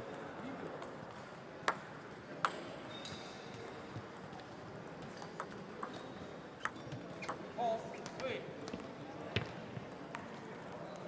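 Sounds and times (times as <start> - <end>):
murmur of large hall: 0.0 - 11.0.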